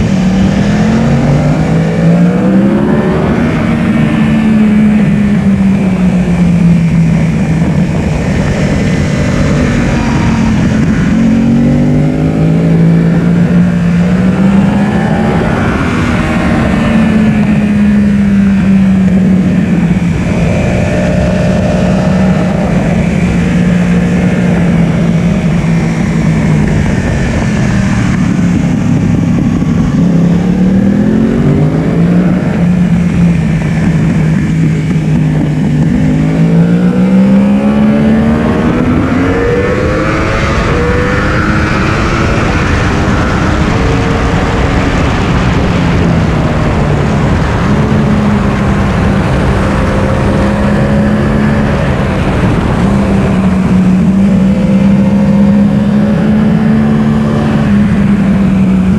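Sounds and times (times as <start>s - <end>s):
motorcycle engine revving: 0.0s - 58.9s
wind rush over microphone: 0.0s - 58.9s.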